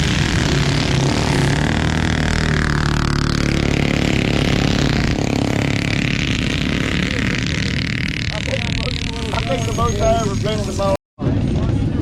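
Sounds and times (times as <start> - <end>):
engine running: 0.0 - 11.4.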